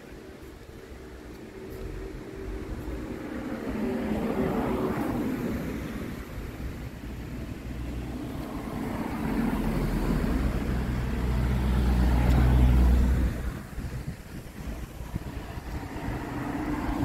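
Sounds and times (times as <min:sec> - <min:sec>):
car engine drone: 0:00.0 - 0:17.0
tyre noise on road: 0:00.0 - 0:17.0
car passing by: 0:01.1 - 0:17.0.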